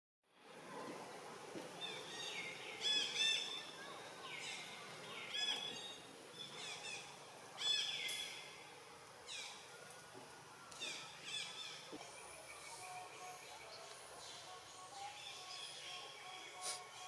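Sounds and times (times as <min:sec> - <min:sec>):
steady outdoor hiss: 0:00.3 - 0:17.0
birds chirping: 0:00.5 - 0:17.0.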